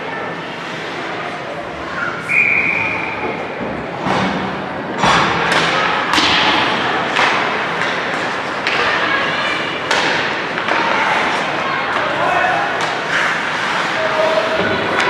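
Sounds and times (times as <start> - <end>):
crowd and room noise: 0.0 - 15.0.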